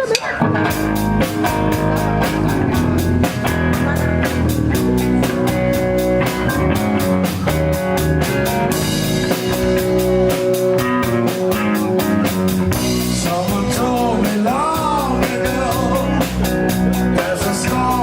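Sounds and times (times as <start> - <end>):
drum kit beat: 0.0 - 18.0
electric guitar: 0.0 - 18.0.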